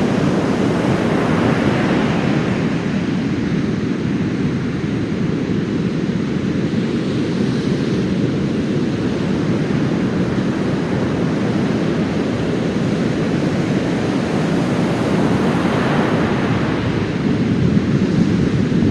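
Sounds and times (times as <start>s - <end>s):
heavy surf breaking on beach: 0.0s - 18.9s
wind buffeting microphone: 0.0s - 18.9s.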